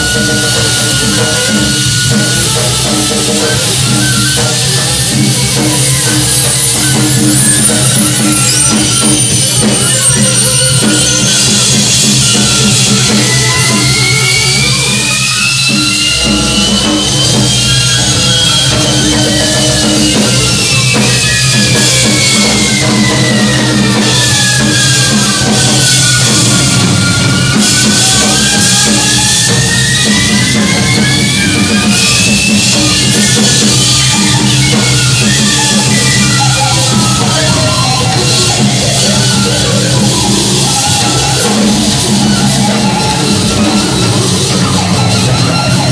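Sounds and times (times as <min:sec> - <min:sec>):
drum kit playing: 0:00.0 - 0:45.9
high gliding tone: 0:00.0 - 0:45.9.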